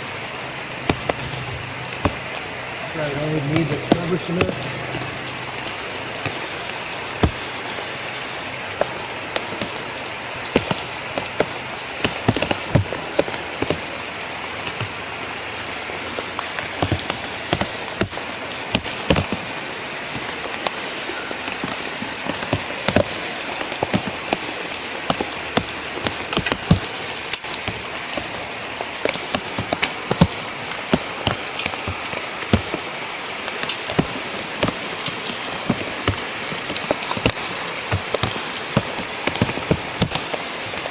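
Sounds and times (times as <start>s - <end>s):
heavy rain: 0.0s - 40.9s
raindrops ticking close by: 0.0s - 40.9s.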